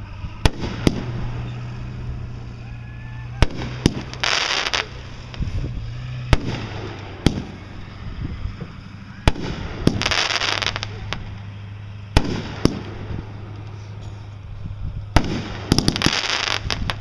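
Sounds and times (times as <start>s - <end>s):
fireworks bangs: 0.0s - 17.0s
fireworks hissing crackle: 0.0s - 17.0s.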